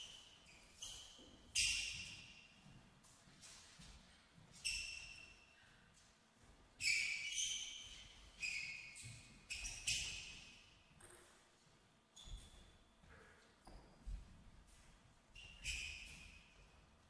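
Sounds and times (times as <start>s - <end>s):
shoes squeaking on court floor: 0.0s - 3.7s, 4.4s - 5.7s, 6.8s - 11.5s, 12.1s - 17.0s.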